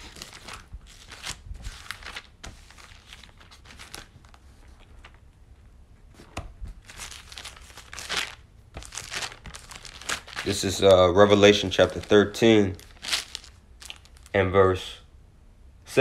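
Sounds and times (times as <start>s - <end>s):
thin pages flipping: 0.0s - 5.2s, 6.1s - 14.3s.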